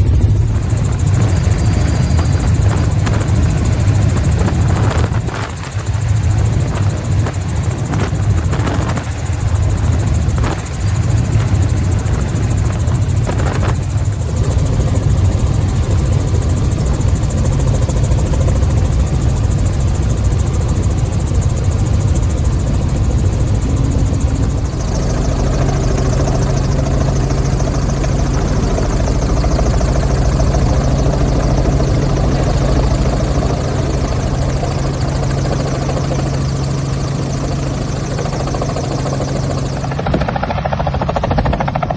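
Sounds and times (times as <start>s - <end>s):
helicopter engine and rotors humming: 0.0s - 41.9s.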